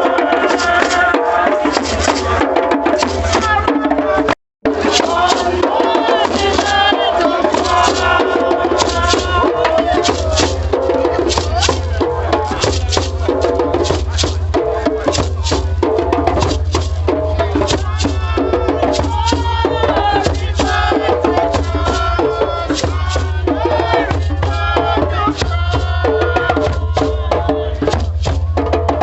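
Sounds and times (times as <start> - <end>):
hand percussion beat: 0.0 - 29.0
voices singing or chanting: 0.0 - 29.0.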